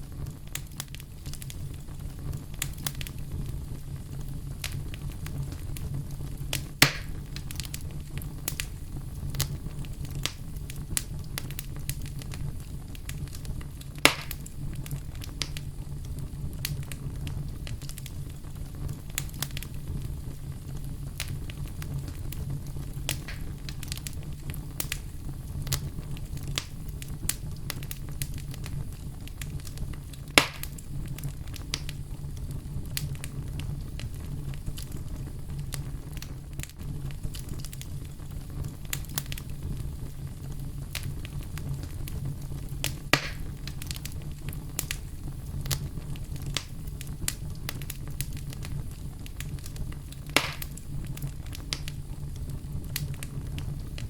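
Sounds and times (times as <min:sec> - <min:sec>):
burning wood crackling and popping: 0:00.0 - 0:54.0
campfire burning low rumble: 0:00.0 - 0:54.0.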